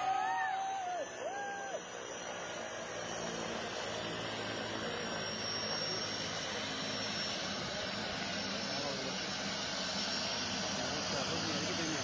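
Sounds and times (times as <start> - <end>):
high turbine whine: 0.0 - 12.0
turboprop engines running: 0.0 - 12.0.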